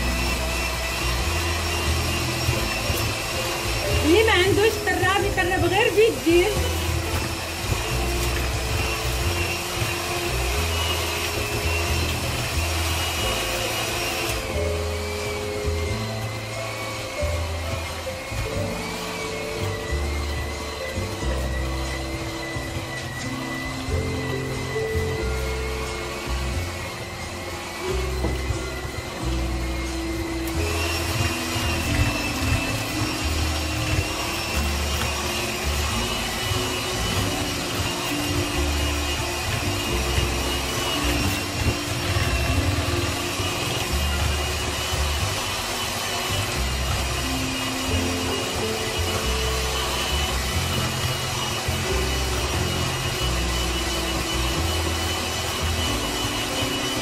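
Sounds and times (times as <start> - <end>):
electric hand mixer whining: 0.0 - 57.0.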